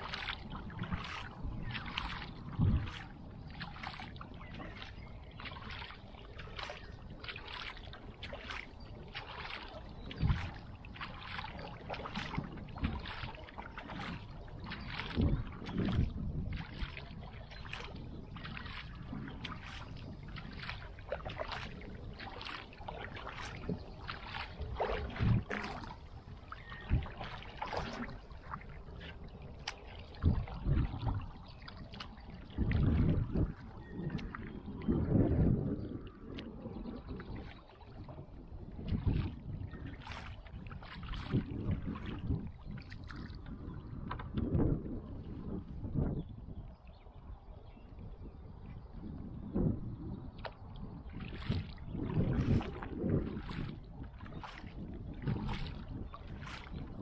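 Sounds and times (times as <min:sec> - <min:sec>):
kayak paddle splashing in water: 0:00.0 - 0:46.1, 0:50.3 - 0:57.0.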